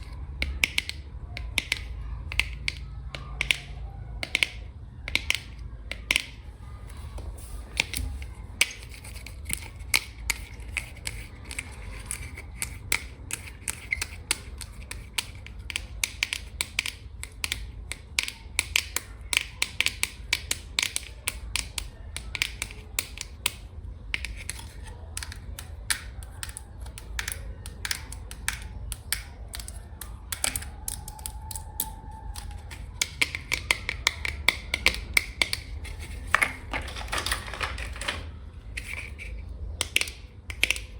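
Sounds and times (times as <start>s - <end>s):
fingernails tapping on containers: 0.0s - 6.4s, 7.2s - 40.9s.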